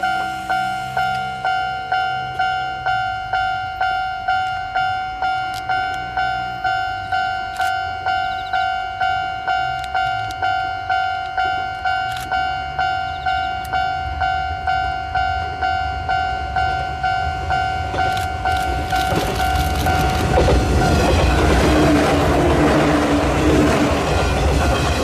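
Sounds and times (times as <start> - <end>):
electric train rumble: 0.0 - 25.0
level-crossing alarm bell: 0.0 - 25.0.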